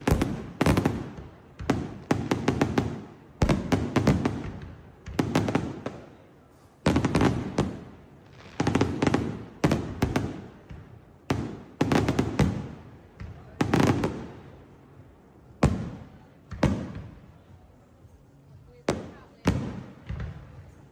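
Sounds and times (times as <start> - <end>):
fireworks bangs: 0.0 - 18.2.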